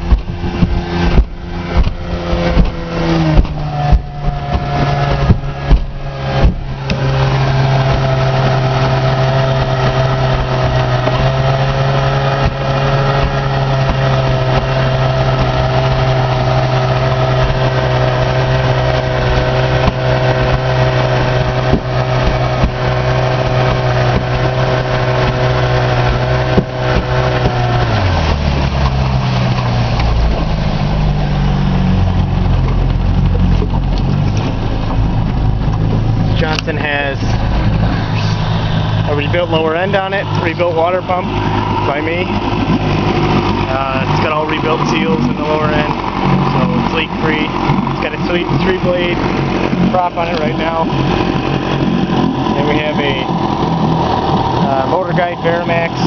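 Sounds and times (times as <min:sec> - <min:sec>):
hull thumping on waves: 0:00.0 - 0:56.0
outboard motor droning: 0:00.0 - 0:56.0.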